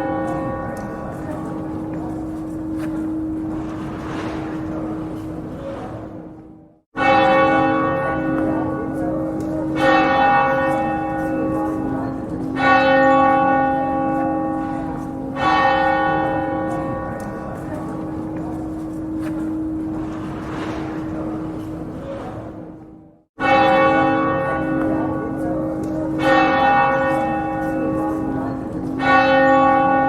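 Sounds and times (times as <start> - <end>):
church bell tolling: 0.0 - 30.0.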